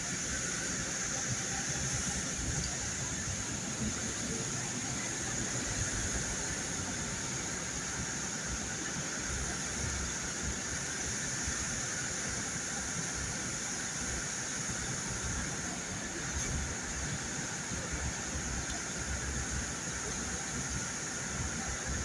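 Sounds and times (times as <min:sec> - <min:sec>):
tyres hissing on wet road: 0:00.0 - 0:22.0.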